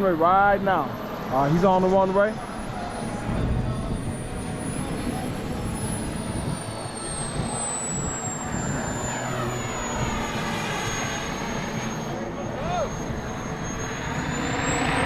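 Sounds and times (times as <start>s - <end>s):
model jet turbine whine: 0.0s - 15.0s.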